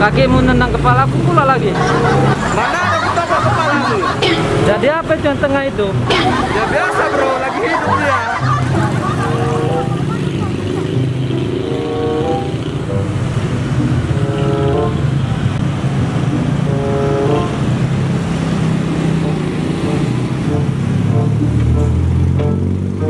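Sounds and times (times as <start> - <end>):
car engine humming: 0.0 - 23.0
light background music: 0.0 - 23.0.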